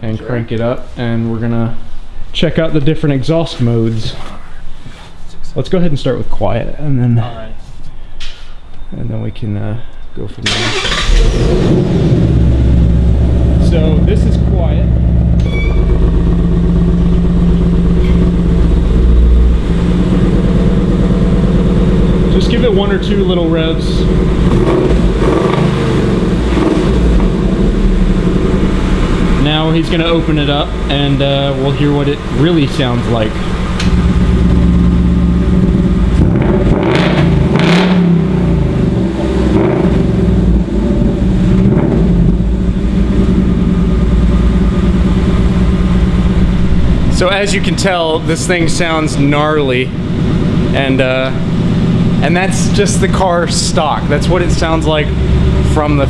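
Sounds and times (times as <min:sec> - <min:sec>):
car engine idling: 0:10.4 - 0:56.0.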